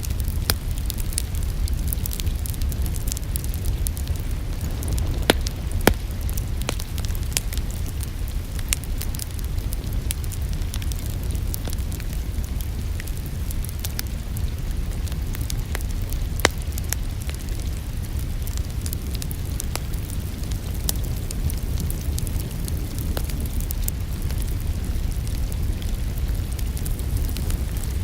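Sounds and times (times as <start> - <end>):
rain falling: 0.0 - 28.0
wood fire crackling: 0.0 - 28.0.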